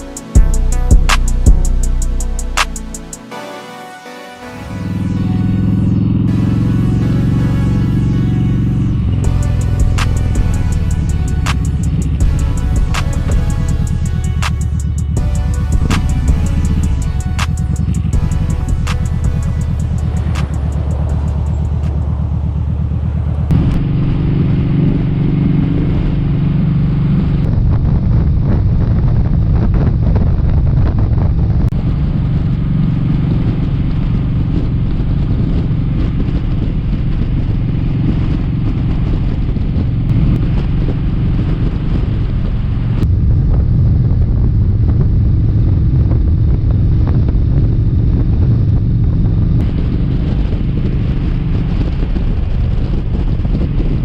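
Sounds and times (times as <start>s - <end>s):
motorcycle engine running steadily: 0.0s - 3.2s, 5.0s - 54.0s
wind rushing over microphone: 5.3s - 54.0s.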